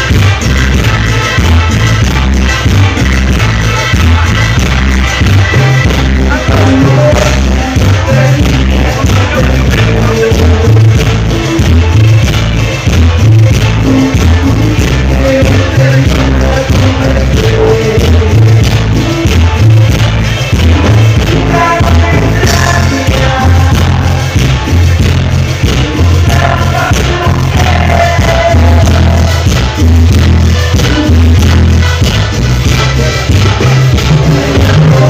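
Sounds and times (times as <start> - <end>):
person singing: 0.0 - 31.7, 32.7 - 35.0
live band playing through pa: 0.0 - 35.0
pulsing bass line: 0.0 - 35.0.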